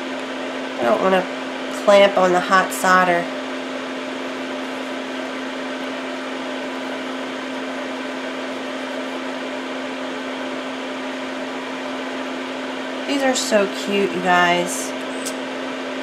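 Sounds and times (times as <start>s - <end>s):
fan motor hum: 0.0s - 16.0s.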